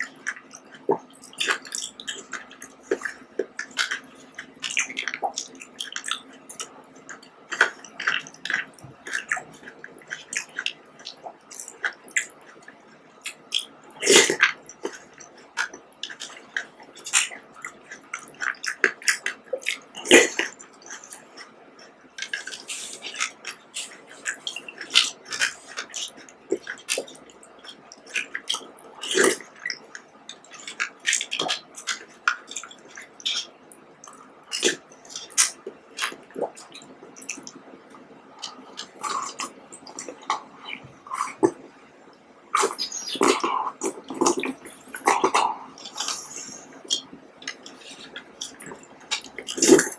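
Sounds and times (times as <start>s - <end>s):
wet squishing and slurping: 0.0s - 49.9s.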